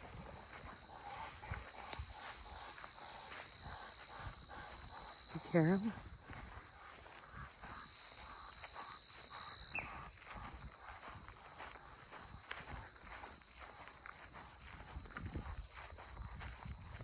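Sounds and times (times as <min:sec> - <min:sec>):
crickets trilling: 0:00.0 - 0:17.0
crunching footsteps: 0:00.0 - 0:17.0.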